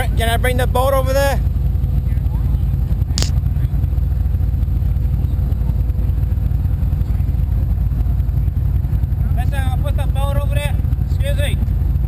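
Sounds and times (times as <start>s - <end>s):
powerboat engine idling: 0.0s - 12.0s.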